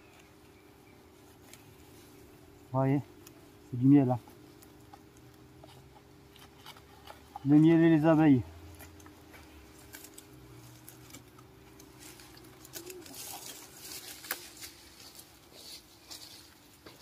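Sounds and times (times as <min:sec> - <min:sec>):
bumblebees buzzing: 0:00.0 - 0:17.0.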